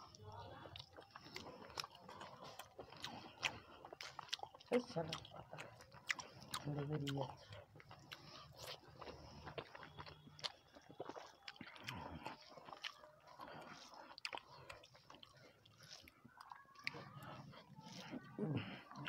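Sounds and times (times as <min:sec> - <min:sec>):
chewing and mouth clicks: 0:00.0 - 0:19.0.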